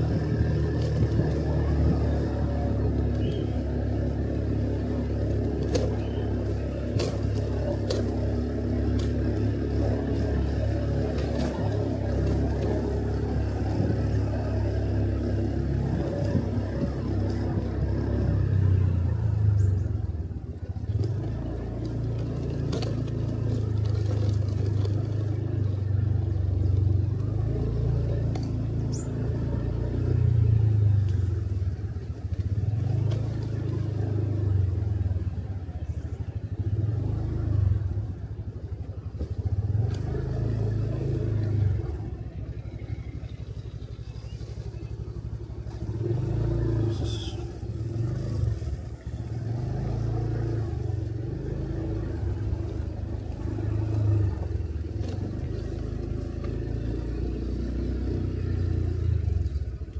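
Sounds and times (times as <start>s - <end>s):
motorcycle engine rumble: 0.0s - 59.9s.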